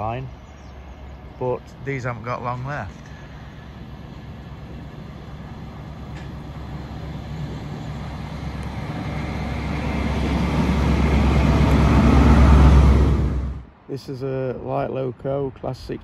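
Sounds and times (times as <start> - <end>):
diesel engine humming: 0.0 - 13.7
train running noise: 0.0 - 13.8.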